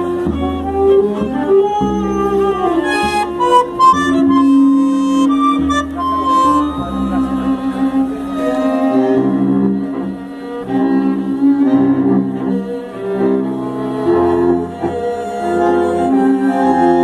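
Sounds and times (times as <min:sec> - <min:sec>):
bandoneon: 0:00.0 - 0:17.0
bowed strings melody: 0:00.0 - 0:17.0
double bass: 0:00.0 - 0:17.0.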